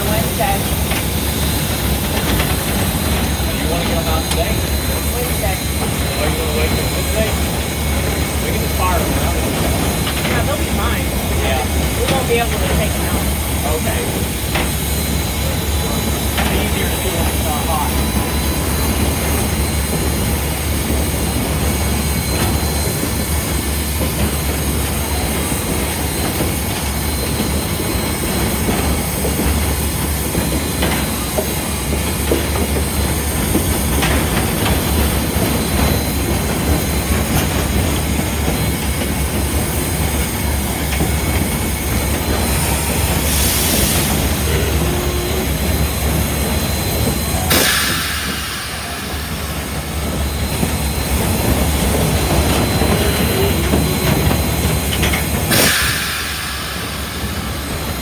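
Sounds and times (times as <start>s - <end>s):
steam locomotive cab rumble: 0.0s - 58.0s
steam hiss bursts: 2.8s - 58.0s.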